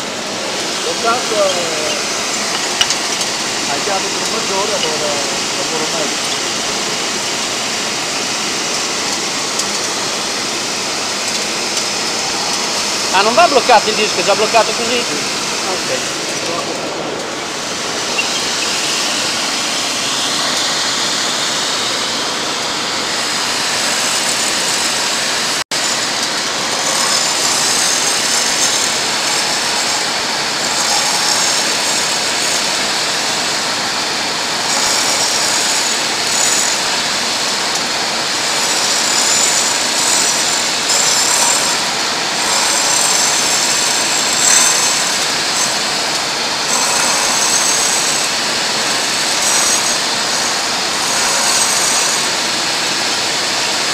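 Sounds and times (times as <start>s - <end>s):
grinder grinding disc: 0.0s - 53.9s.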